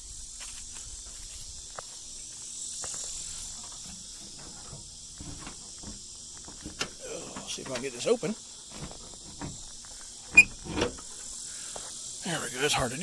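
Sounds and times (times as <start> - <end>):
insects chirping: 0.0 - 13.0
faint footsteps: 0.3 - 10.4, 11.0 - 12.1.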